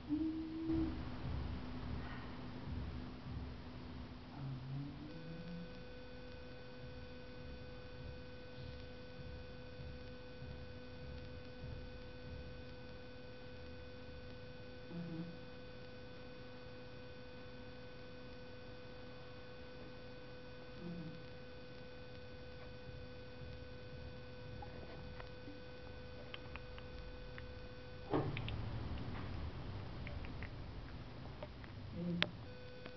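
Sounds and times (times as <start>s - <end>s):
steady electrical hum: 0.0s - 32.9s.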